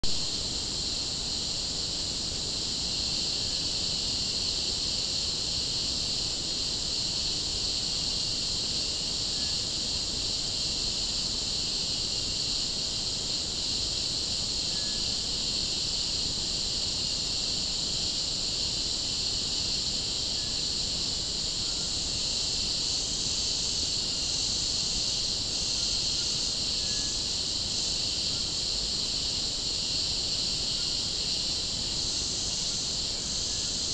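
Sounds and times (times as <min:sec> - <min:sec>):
insect chorus drone: 0:00.0 - 0:33.9.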